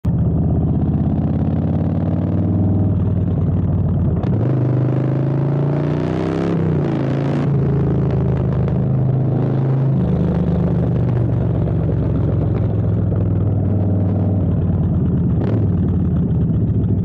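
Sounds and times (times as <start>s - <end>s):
motorcycle exhaust accelerating: 0.1s - 17.0s.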